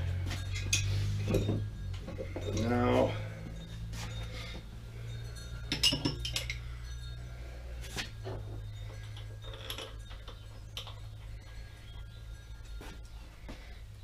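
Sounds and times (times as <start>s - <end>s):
metal tools clinking: 0.0s - 13.5s
steady low hum: 0.0s - 14.0s.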